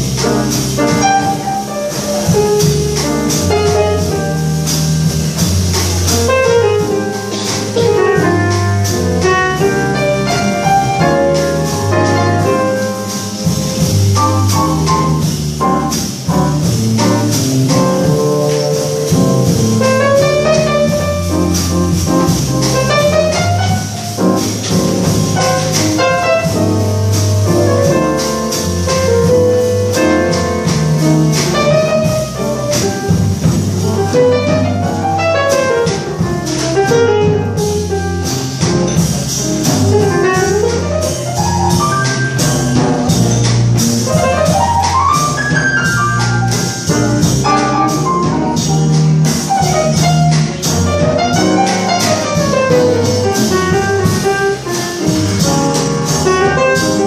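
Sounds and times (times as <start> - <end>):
double bass: 0.0 - 57.0
drum kit: 0.0 - 57.0
piano: 0.0 - 57.0.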